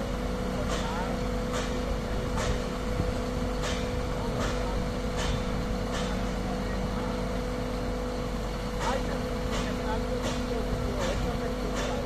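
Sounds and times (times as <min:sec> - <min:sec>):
diesel engine running: 0:00.0 - 0:12.0
hydraulic hum: 0:00.0 - 0:12.0.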